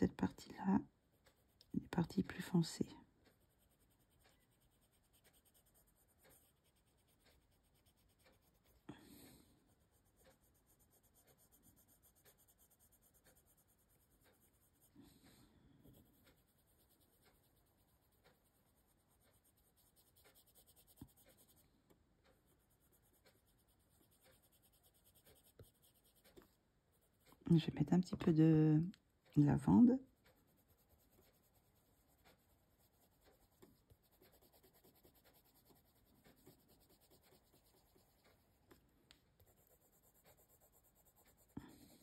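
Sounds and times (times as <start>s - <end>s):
pencil scratching on paper: 0.2s - 27.7s, 29.5s - 42.0s.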